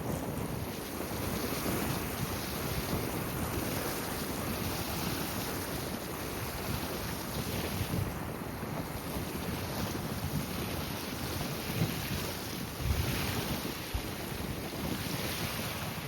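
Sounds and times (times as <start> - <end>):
waves on open water: 0.0 - 16.0
wind buffeting microphone: 0.0 - 16.0.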